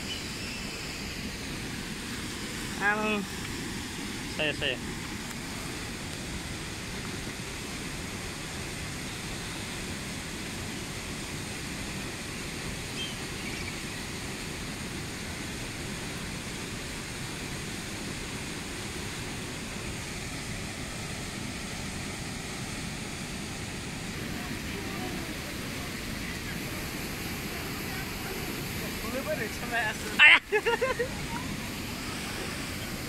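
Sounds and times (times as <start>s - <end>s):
fast-flowing river rushing: 0.0s - 33.0s.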